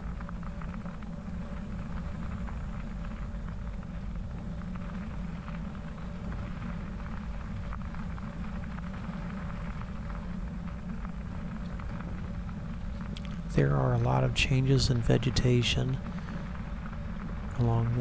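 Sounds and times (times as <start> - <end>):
bicycle tyres rolling on gravel: 0.0 - 18.0.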